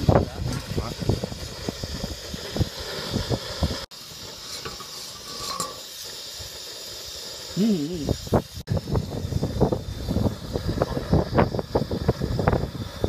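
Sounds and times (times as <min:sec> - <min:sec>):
gas burner hissing: 0:00.0 - 0:13.0.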